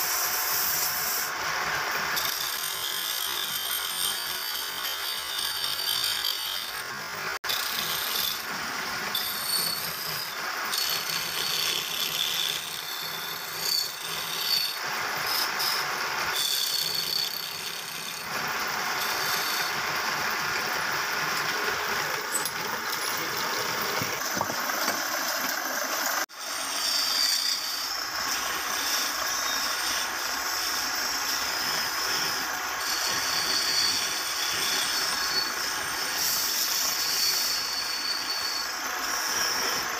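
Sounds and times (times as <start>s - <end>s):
wood lathe scraping wood: 0.0s - 39.9s.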